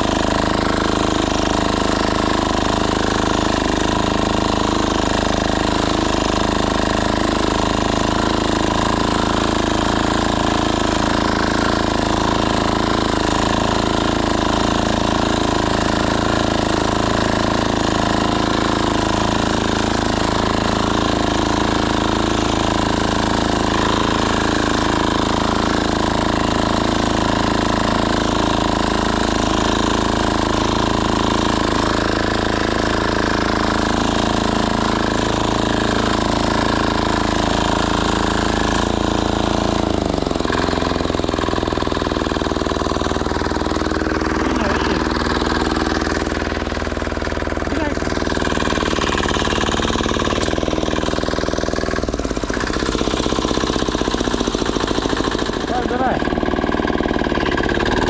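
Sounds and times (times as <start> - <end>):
walk-behind tractor diesel engine: 0.0 - 58.0.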